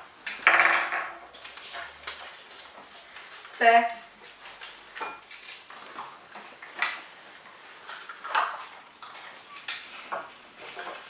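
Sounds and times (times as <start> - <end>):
paper crinkling: 1.3 - 11.0
paper rustling: 1.3 - 11.0.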